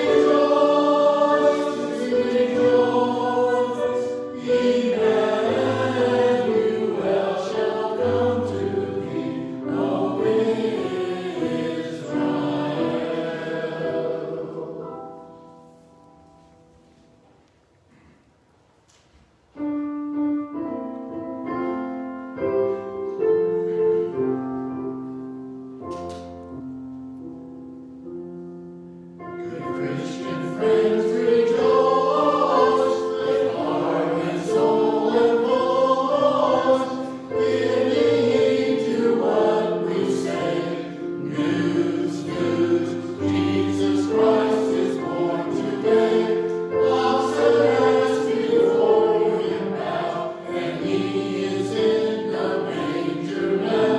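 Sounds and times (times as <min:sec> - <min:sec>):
choir singing: 0:00.0 - 0:15.8, 0:21.5 - 0:25.2, 0:29.2 - 0:53.9
piano playing: 0:00.0 - 0:17.3, 0:19.6 - 0:53.9.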